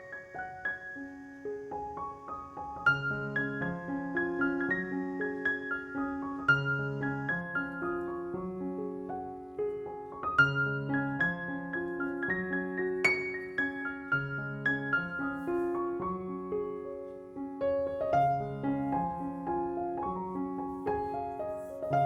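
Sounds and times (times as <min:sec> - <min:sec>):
solo piano piece: 0:00.0 - 0:22.0.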